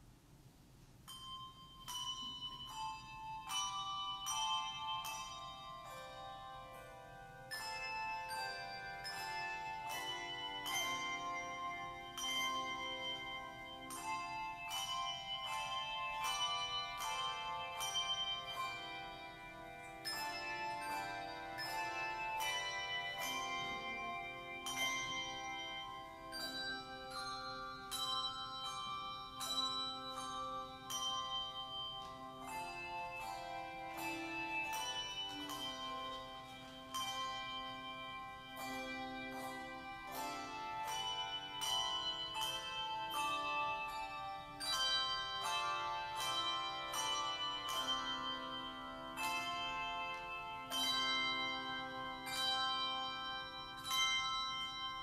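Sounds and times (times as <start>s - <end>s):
handbell choir playing: 1.0s - 55.0s.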